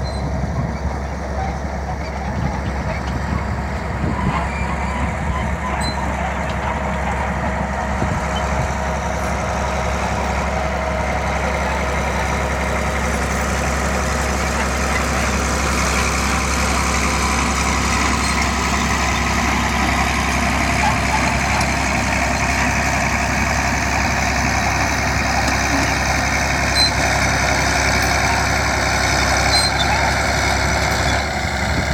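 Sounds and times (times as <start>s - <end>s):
bulldozer diesel engine running: 0.0s - 31.9s.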